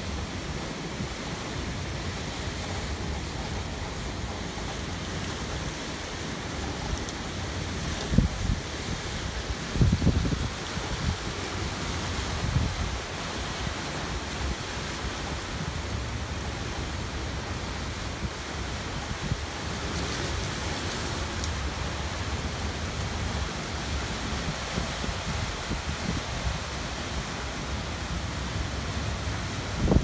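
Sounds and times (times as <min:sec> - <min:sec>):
wind and rain rushing: 0:00.0 - 0:30.0
wind gusts rumbling on microphone: 0:00.0 - 0:30.0.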